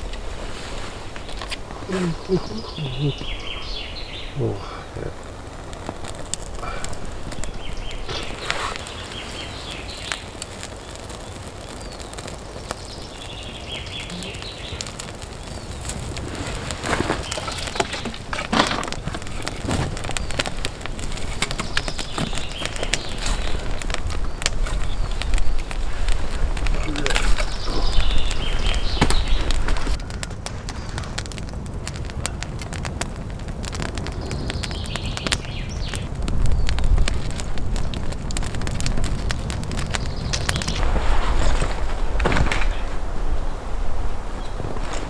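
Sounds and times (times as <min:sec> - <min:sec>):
campfire crackling and popping: 0:00.0 - 0:45.0
dry twigs rustling and snapping: 0:00.0 - 0:45.0.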